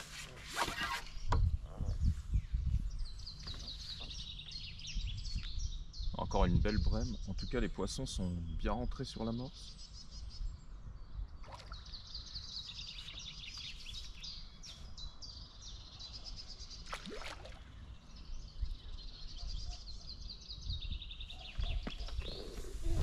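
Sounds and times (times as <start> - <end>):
small birds trilling: 0.6 - 23.0.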